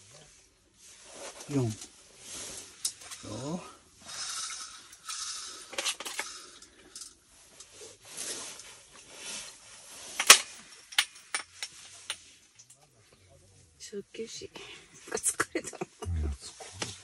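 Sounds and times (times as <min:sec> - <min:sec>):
soft rustling: 0:00.0 - 0:17.0.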